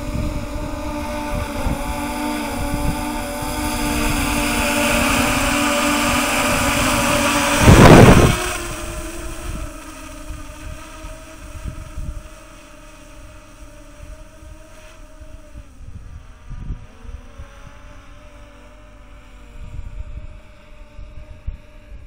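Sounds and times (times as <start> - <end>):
drone propellers buzzing: 0.0 - 22.0
rotor wash buffeting microphone: 0.0 - 22.0.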